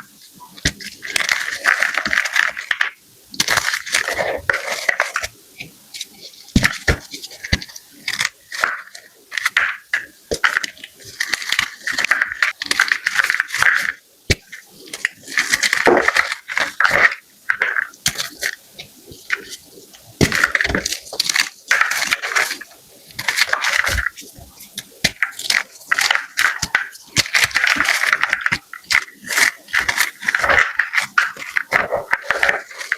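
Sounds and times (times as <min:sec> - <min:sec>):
chalk blocks crunching: 0:00.0 - 0:32.9.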